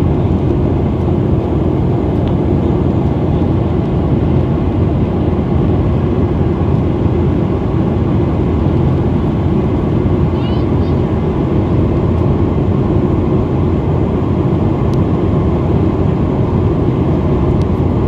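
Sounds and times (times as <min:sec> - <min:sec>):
jet engines and airflow drone: 0:00.0 - 0:18.0.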